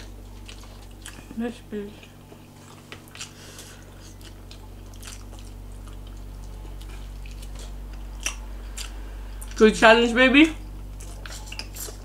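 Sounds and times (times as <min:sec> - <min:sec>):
person chewing food: 0:00.0 - 0:01.4, 0:02.0 - 0:09.6, 0:10.7 - 0:12.0
low hum: 0:00.0 - 0:12.0.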